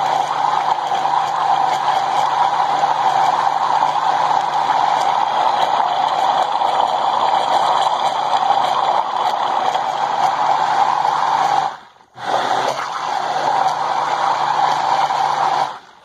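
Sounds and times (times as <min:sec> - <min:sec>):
blender motor running: 0:00.0 - 0:15.9.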